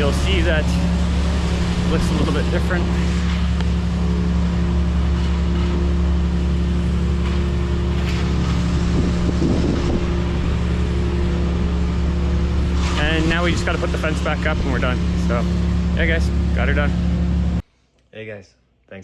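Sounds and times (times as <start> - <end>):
vehicle engine idling: 0.0 - 17.6.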